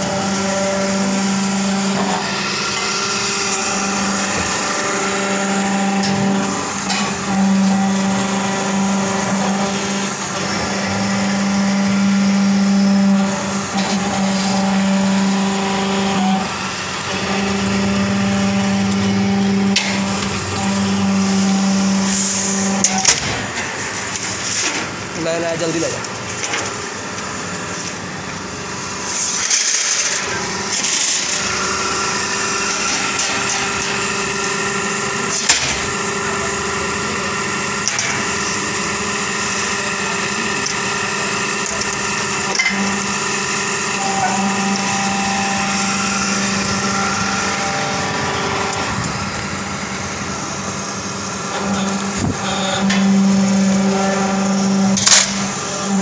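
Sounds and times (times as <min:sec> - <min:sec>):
hydraulic motor and pump hum: 0:00.0 - 0:56.0.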